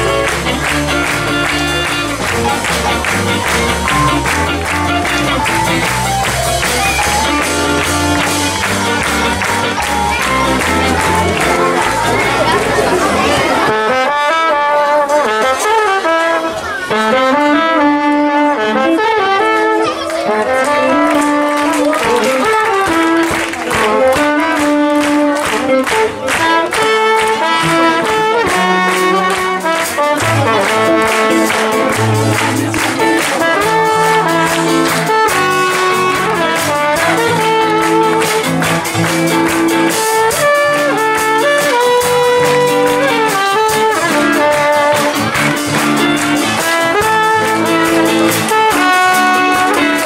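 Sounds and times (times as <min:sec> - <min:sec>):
bass line: 0:00.0 - 0:13.7, 0:21.0 - 0:50.0
regular beat: 0:00.0 - 0:17.8, 0:18.4 - 0:50.0
electric guitar: 0:00.0 - 0:50.0
keyboard: 0:00.0 - 0:50.0
trumpet melody: 0:00.0 - 0:50.0.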